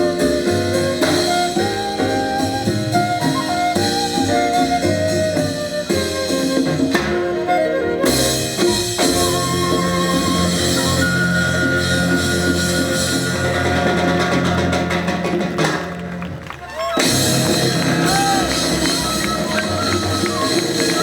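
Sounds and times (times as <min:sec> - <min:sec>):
drum kit: 0:00.0 - 0:21.0
latin jazz ensemble playing: 0:00.0 - 0:21.0.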